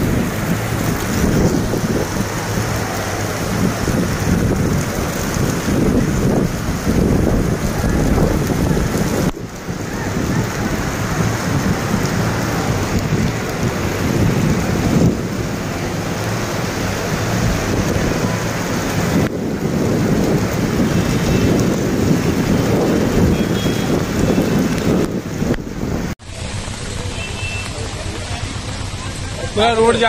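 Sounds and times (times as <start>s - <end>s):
wind rumbling on microphone: 0.0s - 26.2s
heavy rain: 0.0s - 30.0s
rushing floodwater: 0.0s - 30.0s.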